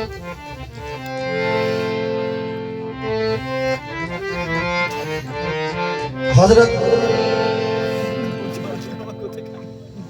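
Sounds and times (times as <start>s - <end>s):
harmonium melody: 0.0s - 10.0s.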